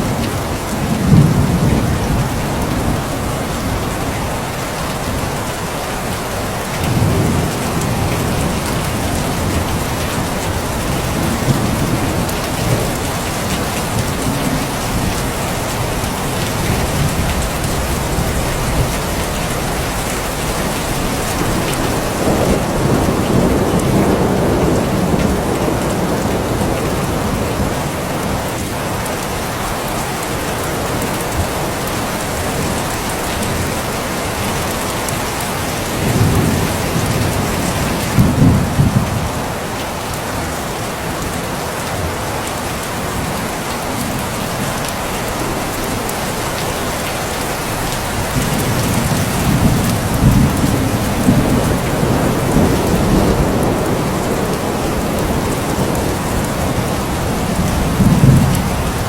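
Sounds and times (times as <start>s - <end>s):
thunder rumbling: 0.0s - 5.3s, 6.6s - 39.7s, 44.0s - 59.0s
heavy rain falling: 0.0s - 59.0s.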